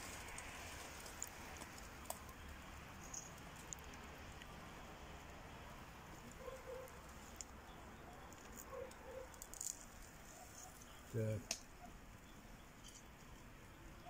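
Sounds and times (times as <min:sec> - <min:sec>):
embers crackling and popping: 0:00.0 - 0:14.0
low steady fire hiss: 0:00.0 - 0:14.0.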